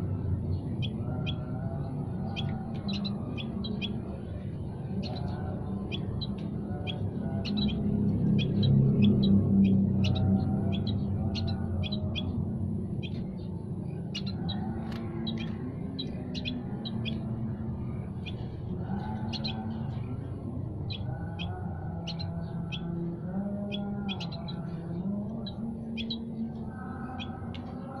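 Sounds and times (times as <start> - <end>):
low hum shifting pitch: 0.0 - 28.0
songbirds chirping: 0.0 - 28.0.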